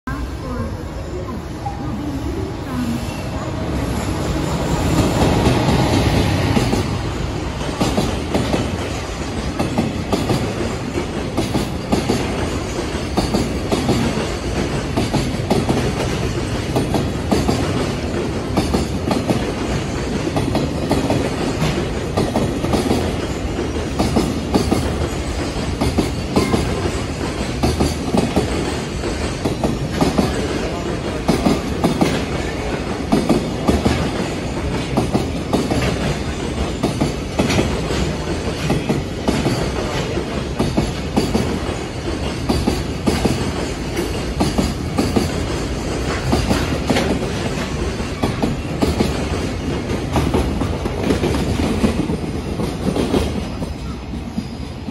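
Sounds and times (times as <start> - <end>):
electric locomotive passing: 0.1 - 54.9.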